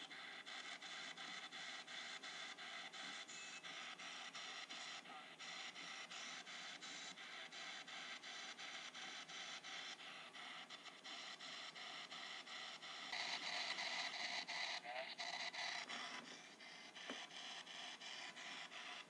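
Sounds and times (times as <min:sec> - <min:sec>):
radio static with rapid clicks: 0:00.0 - 0:19.0.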